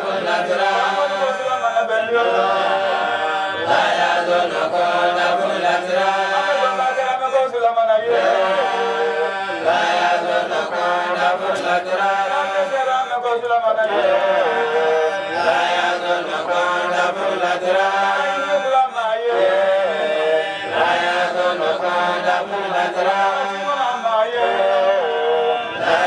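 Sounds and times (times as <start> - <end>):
voices chanting slowly: 0.0 - 26.0.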